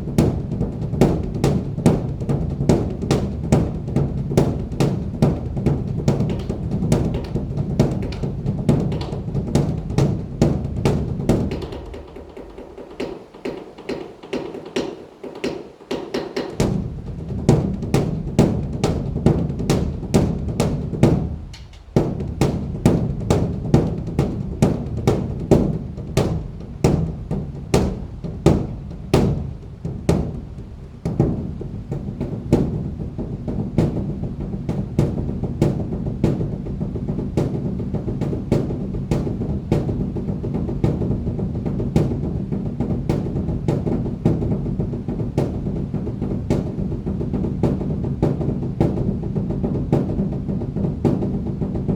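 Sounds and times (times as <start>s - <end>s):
large drum beaten rapidly: 0.0s - 51.9s.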